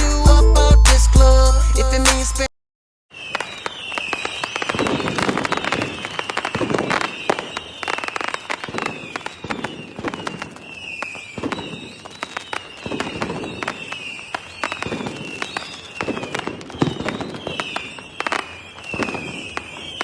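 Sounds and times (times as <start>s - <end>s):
falling firework whistle: 3.1s - 20.0s
fireworks crackling and popping: 3.1s - 20.0s.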